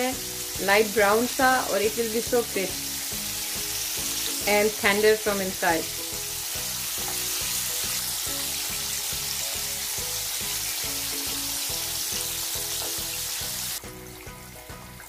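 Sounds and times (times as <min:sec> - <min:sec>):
background music with steady beat: 0:00.0 - 0:15.0
fish frying in hot oil: 0:00.0 - 0:15.0.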